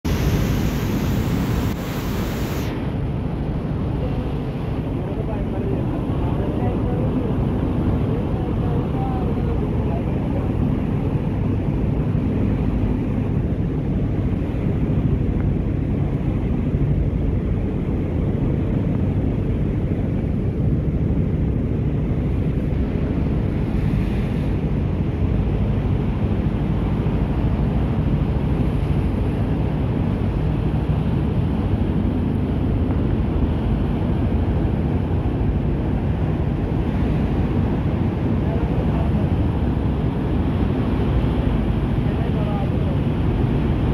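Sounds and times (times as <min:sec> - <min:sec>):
motorboat engine drone: 0:00.0 - 0:43.9
wind rumble on microphone: 0:00.0 - 0:43.9.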